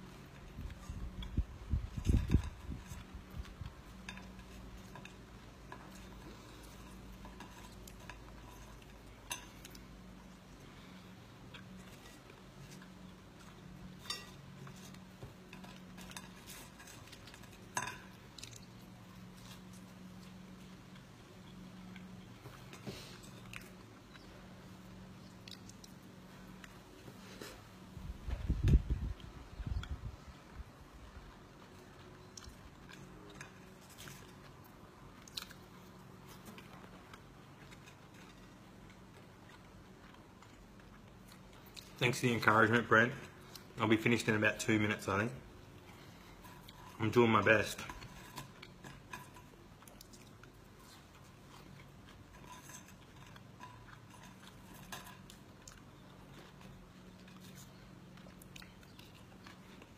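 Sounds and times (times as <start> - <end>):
person eating: 0.0 - 28.0, 29.0 - 43.8, 45.4 - 59.9
person chewing food: 0.0 - 42.0, 42.7 - 43.8, 45.4 - 59.9
steady low hum: 0.0 - 59.9.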